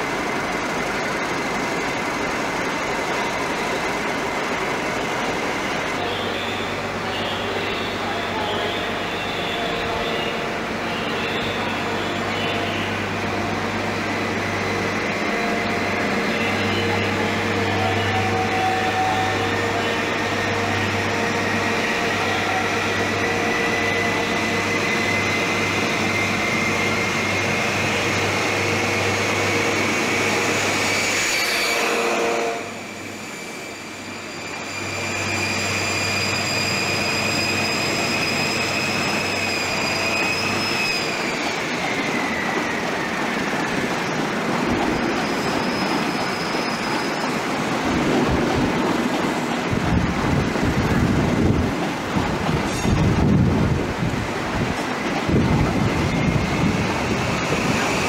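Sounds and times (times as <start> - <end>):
diesel train engine drone: 0.0 - 58.0
train coaches rolling: 0.0 - 58.0.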